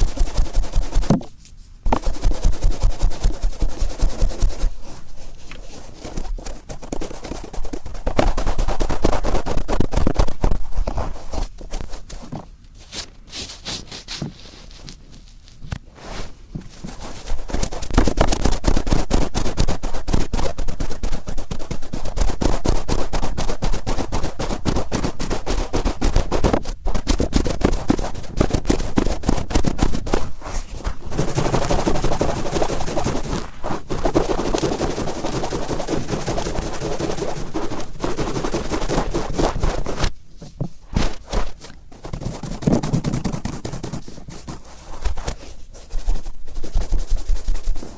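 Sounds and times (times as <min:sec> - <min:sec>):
cotton swabs scratching in ears: 0:00.0 - 0:01.1, 0:01.9 - 0:40.2, 0:41.0 - 0:47.9.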